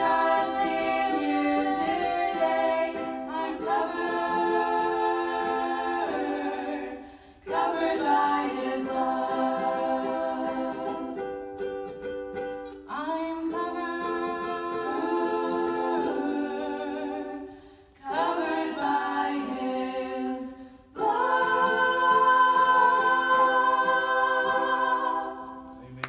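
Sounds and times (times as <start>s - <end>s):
girls singing a cappella: 0.0s - 11.6s, 12.8s - 25.7s.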